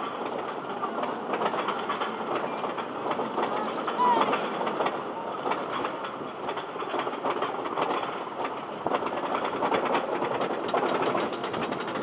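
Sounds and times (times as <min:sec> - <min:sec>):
train cars clattering rattle: 0:00.0 - 0:12.0
wheels clicking on rail joints: 0:00.0 - 0:12.0.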